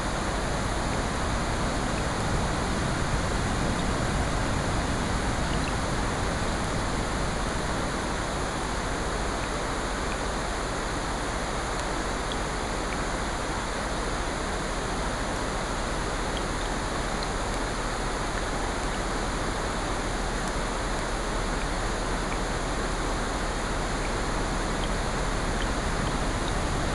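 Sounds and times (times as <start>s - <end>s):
ocean surf: 0.0s - 26.9s
rain: 0.0s - 26.9s.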